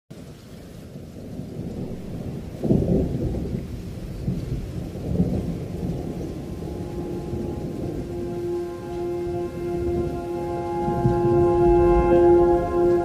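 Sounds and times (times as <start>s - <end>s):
rolling thunder: 0.8s - 13.0s.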